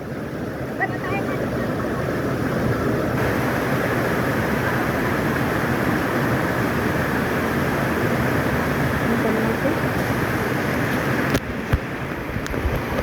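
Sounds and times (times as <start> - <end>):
rushing mountain stream: 0.0 - 13.0.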